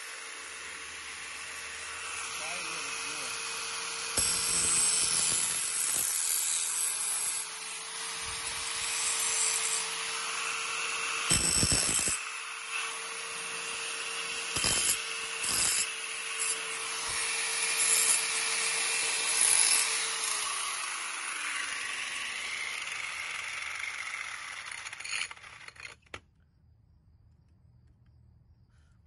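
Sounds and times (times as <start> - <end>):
angle grinder grinding metal: 0.0 - 26.1.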